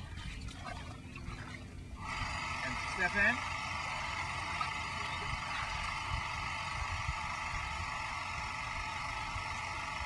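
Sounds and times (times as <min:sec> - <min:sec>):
shoreline hiss and rumble: 0:00.0 - 0:10.0.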